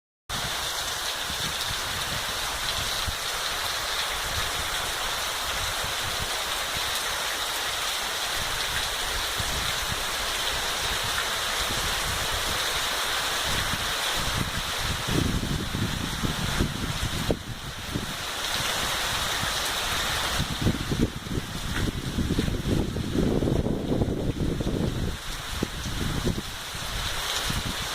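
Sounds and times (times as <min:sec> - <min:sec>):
rain falling: 0:00.3 - 0:27.9.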